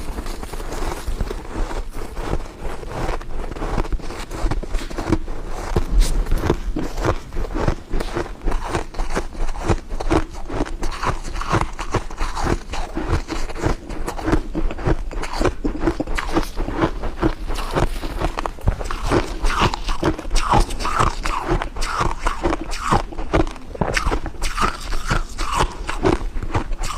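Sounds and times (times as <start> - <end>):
ice being chewed: 0.0 - 26.9.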